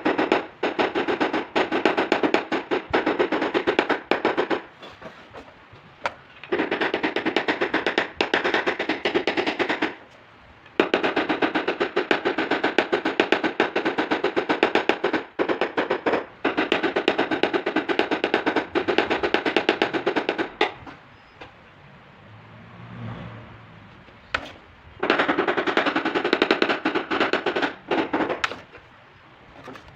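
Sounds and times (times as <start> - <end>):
tool tapping on sheet metal: 0.0 - 21.0, 24.3 - 28.8.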